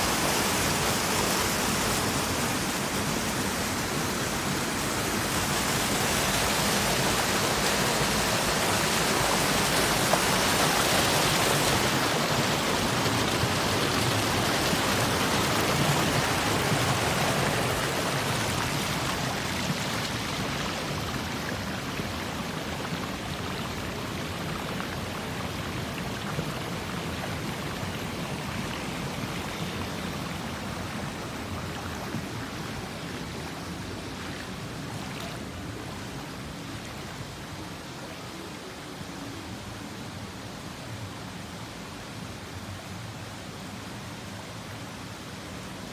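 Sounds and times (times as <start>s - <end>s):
river water rushing over rocks: 0.0s - 45.9s.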